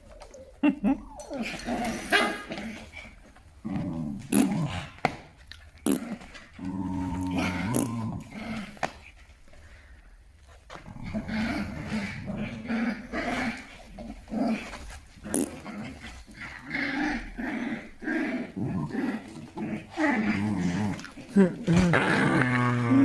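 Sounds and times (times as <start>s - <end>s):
dog growling in play: 0.2s - 5.2s, 5.8s - 9.1s, 10.8s - 23.0s.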